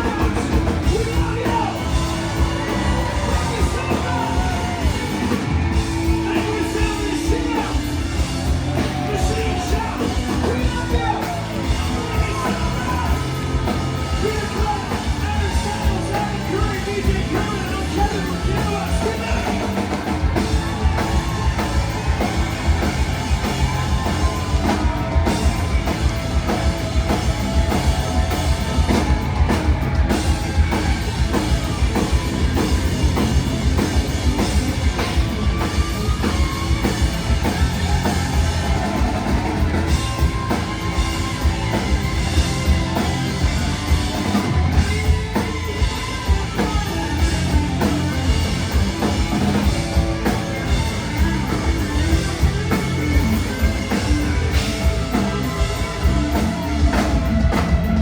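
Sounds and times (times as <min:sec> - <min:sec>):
drum kit steady beat: 0:00.0 - 0:58.0
electric guitars: 0:00.0 - 0:58.0.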